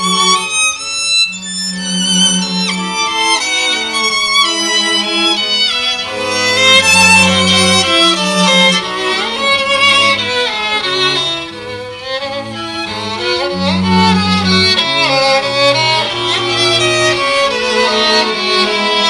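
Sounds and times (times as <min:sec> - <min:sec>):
cello bass notes: 0:00.0 - 0:19.0
violin melody: 0:00.0 - 0:19.0.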